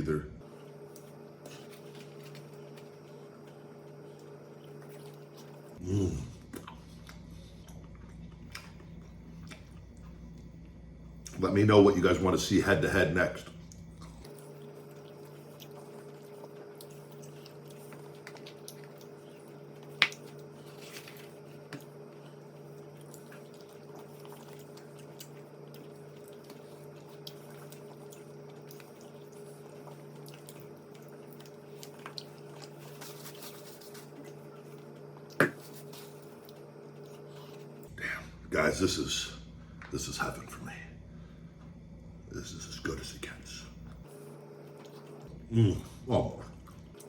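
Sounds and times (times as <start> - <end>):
electrical hum: 0.0 - 47.0
person chewing food: 0.4 - 11.4, 13.6 - 38.0, 43.8 - 47.0.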